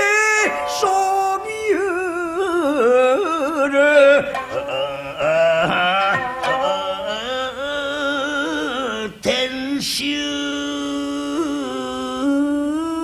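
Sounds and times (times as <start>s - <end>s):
man singing long vowel: 0.0s - 13.0s.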